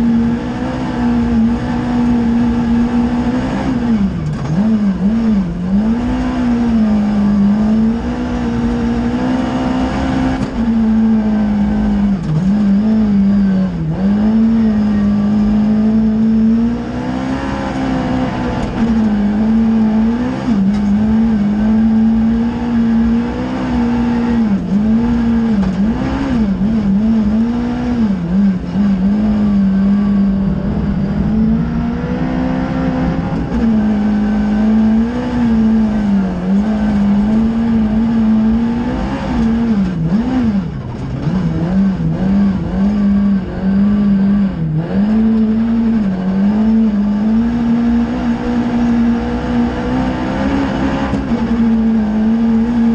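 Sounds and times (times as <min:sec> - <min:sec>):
rally car engine at high revs: 0:00.0 - 0:52.9
tyres rumbling on snowy road: 0:00.0 - 0:52.9.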